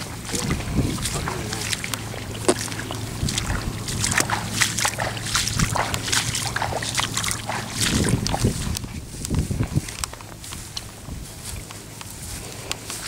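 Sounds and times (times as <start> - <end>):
footsteps wading through water: 0.0 - 13.0.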